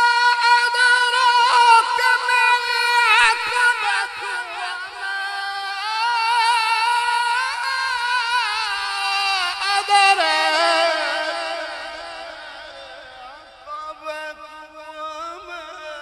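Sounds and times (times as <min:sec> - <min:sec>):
solo voice melodic recitation: 0:00.0 - 0:12.9.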